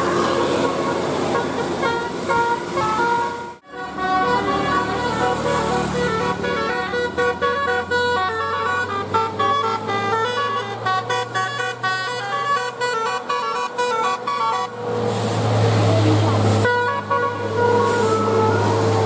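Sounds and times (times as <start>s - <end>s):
bus musical horn tune: 0.0s - 15.2s, 16.6s - 19.0s
bus engine running: 0.0s - 19.0s.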